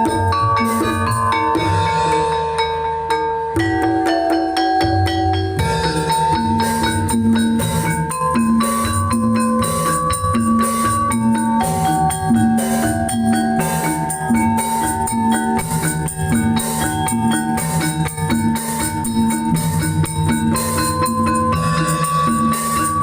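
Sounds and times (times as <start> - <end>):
low drum pattern: 0.0 - 23.0
mallet percussion ringing notes: 0.0 - 23.0.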